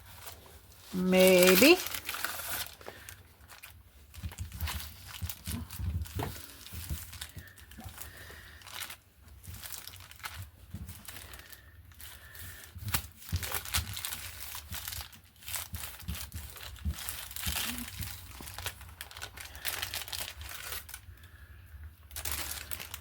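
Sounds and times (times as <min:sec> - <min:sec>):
paper crinkling and rustling: 0:00.0 - 0:23.0.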